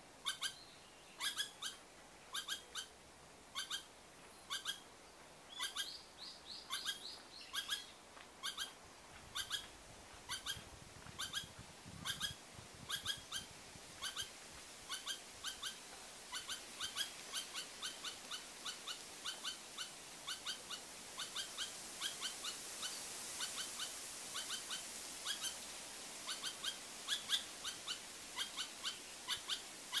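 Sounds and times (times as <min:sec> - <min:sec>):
squirrel giving sharp alarm calls: 0:00.2 - 0:00.6, 0:01.2 - 0:02.9, 0:03.5 - 0:03.9, 0:04.5 - 0:04.8, 0:05.5 - 0:05.9, 0:06.7 - 0:09.7, 0:10.3 - 0:10.6, 0:11.2 - 0:14.3, 0:14.9 - 0:25.6, 0:26.2 - 0:30.0.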